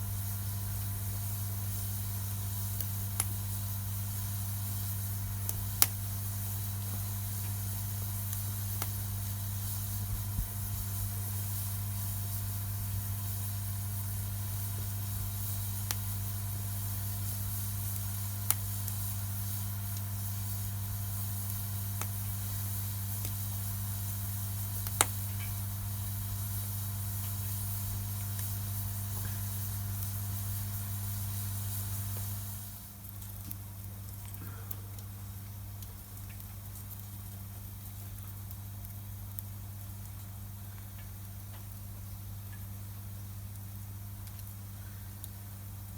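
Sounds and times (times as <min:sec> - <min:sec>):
wood fire popping: 0:00.0 - 0:45.9.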